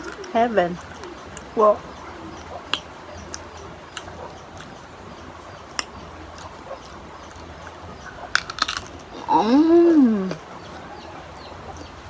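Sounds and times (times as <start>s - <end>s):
chewing crisp mango: 0.0s - 12.0s
low background hum and hiss: 0.0s - 12.0s.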